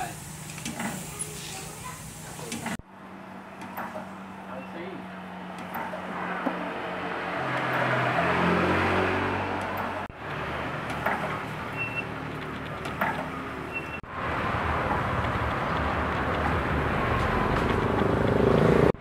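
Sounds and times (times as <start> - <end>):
motor vehicle passing: 2.4 - 19.0.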